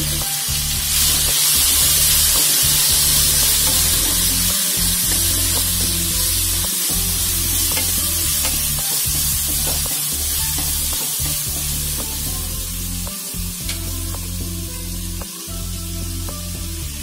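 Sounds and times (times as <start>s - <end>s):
background music with bass line: 0.0s - 17.0s
potatoes sizzling in hot oil: 0.0s - 17.0s.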